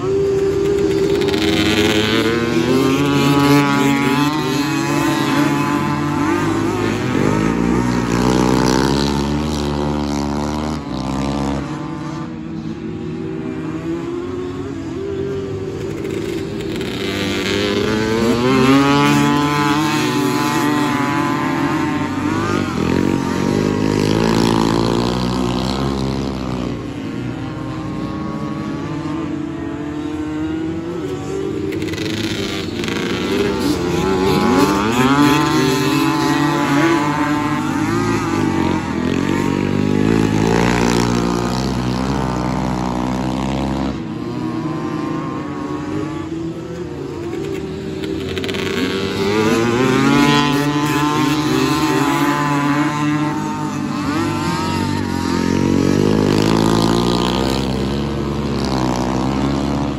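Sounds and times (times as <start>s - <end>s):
atv engines racing: 0.0s - 59.9s.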